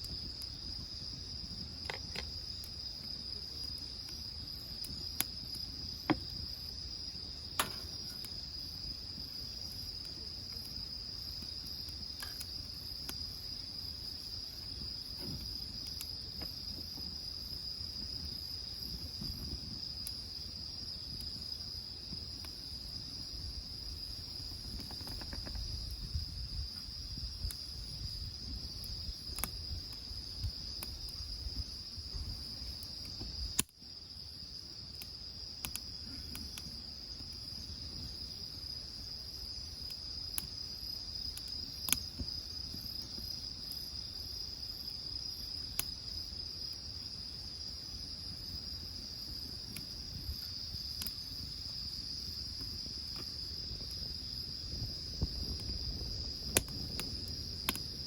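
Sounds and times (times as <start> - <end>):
wood fire crackling and popping: 0.0 - 44.7, 45.3 - 58.0
insects chirring: 0.0 - 58.0.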